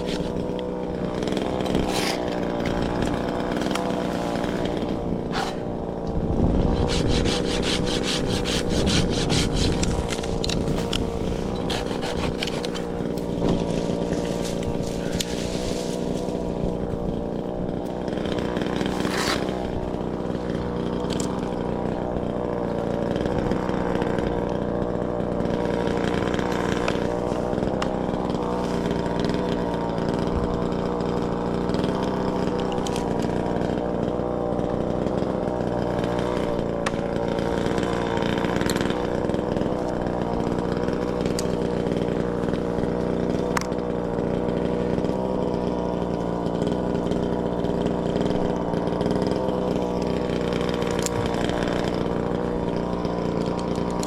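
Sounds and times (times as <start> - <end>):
chainsaw running: 0.0 - 54.0.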